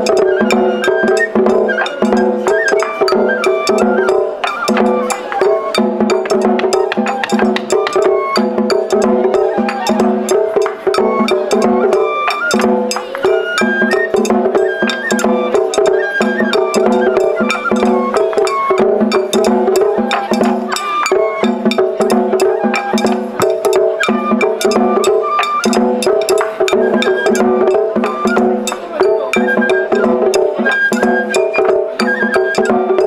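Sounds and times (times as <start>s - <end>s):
bamboo flute melody: 0.0s - 33.0s
rapid drum strikes: 3.1s - 32.2s.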